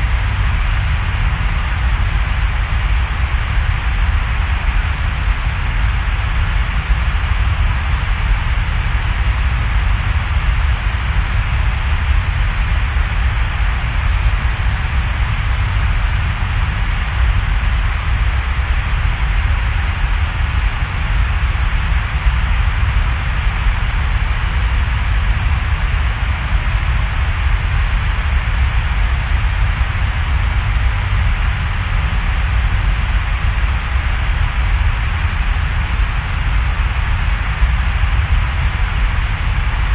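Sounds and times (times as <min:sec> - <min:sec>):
continuous hiss: 0:00.0 - 0:39.9.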